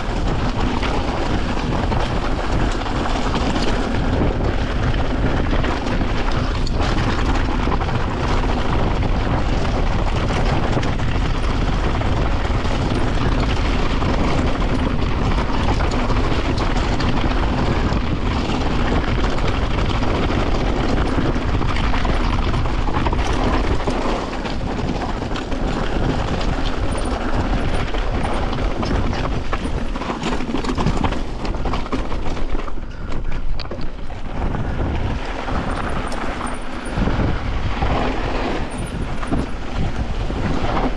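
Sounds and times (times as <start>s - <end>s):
bike rattling: 0.0s - 40.9s
bike tyres on dirt: 0.0s - 40.9s.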